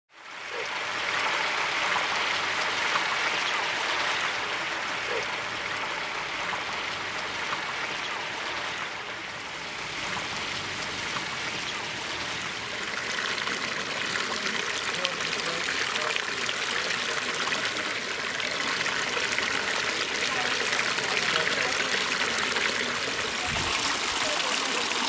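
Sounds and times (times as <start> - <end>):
water running over rocks: 0.2 - 25.0.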